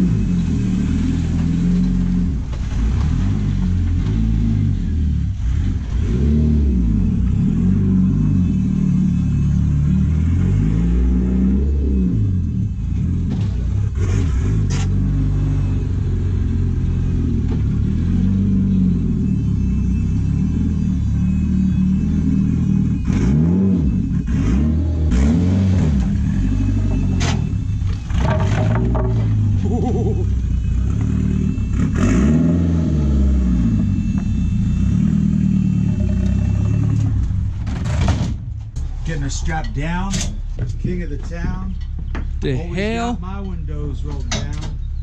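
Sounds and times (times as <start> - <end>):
turbocharged engine at low revs: 0.0 - 40.0.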